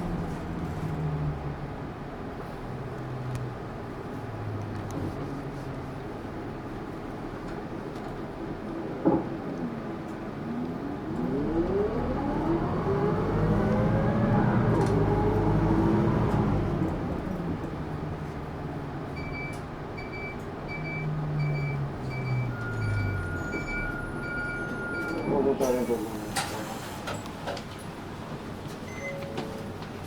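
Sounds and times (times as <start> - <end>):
bus diesel engine: 0.0 - 30.0.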